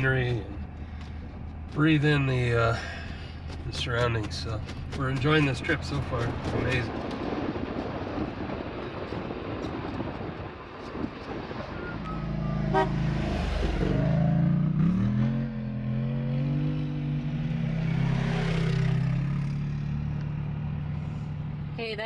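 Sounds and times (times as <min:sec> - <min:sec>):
steady engine drone: 0:00.0 - 0:17.8.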